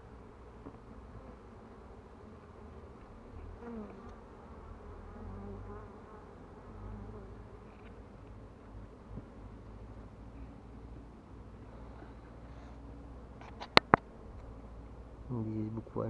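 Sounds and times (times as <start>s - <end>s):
bees passing close: 0.0s - 16.0s
honey bees buzzing: 0.0s - 16.0s.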